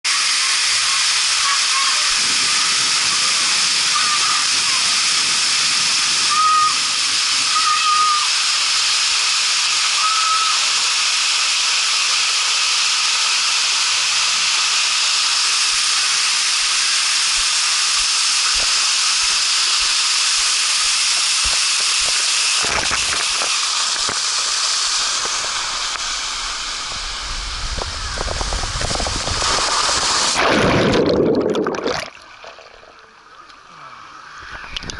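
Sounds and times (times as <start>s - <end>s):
waterfall splashing: 0.1s - 33.0s
rushing water and wind: 0.2s - 12.4s, 13.8s - 32.9s.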